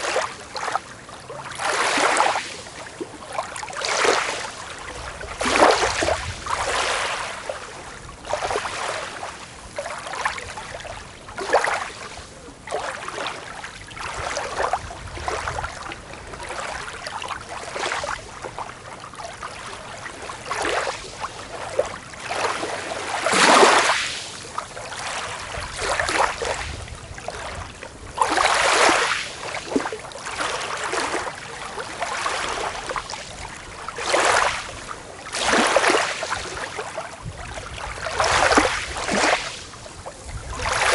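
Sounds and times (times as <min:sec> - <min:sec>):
small waves washing onto beach: 0:00.0 - 0:40.9.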